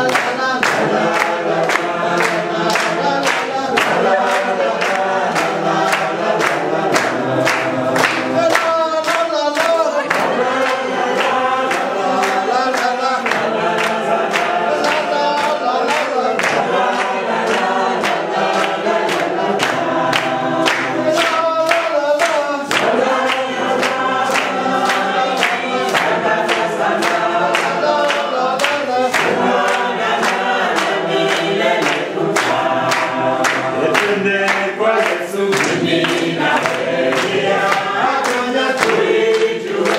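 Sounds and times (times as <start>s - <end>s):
group singing: 0.0s - 39.9s
hand clapping on the beat: 0.0s - 39.9s.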